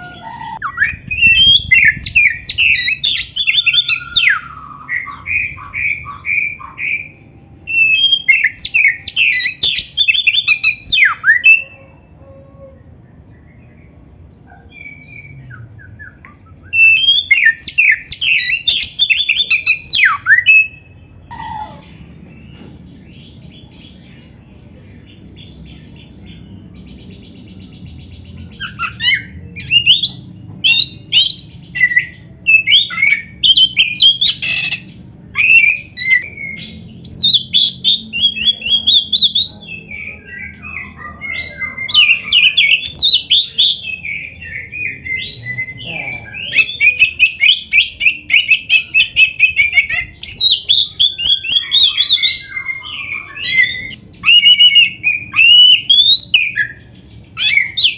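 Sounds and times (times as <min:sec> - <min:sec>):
bird singing whistles and trills: 0:00.0 - 0:11.9, 0:13.1 - 0:21.8, 0:25.2 - 0:57.9.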